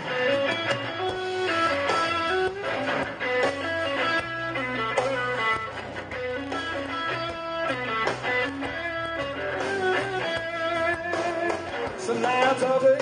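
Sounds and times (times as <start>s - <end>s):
bass guitar: 0.0s - 13.0s
drums: 0.0s - 13.0s
electric guitar single notes: 0.0s - 13.0s.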